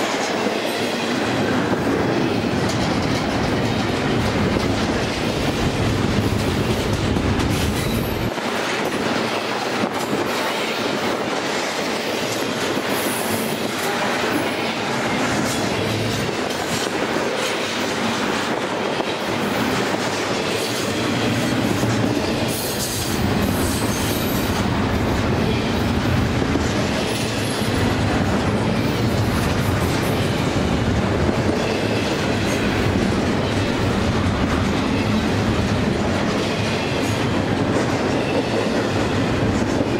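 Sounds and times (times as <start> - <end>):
clickety-clack over rail joints: 0.0 - 39.9
wheel and rail rumble: 0.0 - 39.9.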